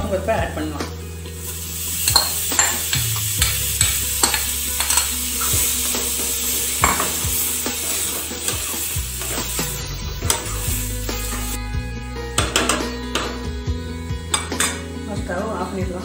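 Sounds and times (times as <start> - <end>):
food sizzling: 0.6 - 16.0.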